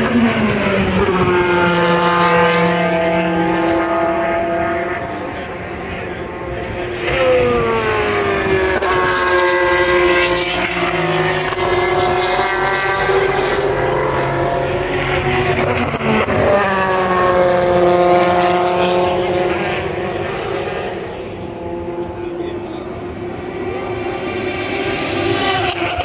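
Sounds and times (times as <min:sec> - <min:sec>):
race cars passing at high revs: 0:00.0 - 0:26.0.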